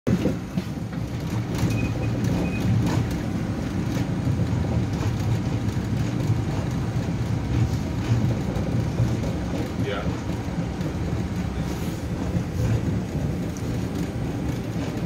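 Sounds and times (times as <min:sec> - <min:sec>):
subway train rumbling: 0:00.1 - 0:15.0.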